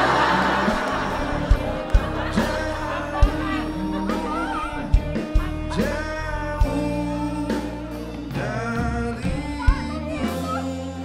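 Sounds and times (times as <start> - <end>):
live band playing: 0.0 - 11.0
man and woman singing: 0.0 - 11.0.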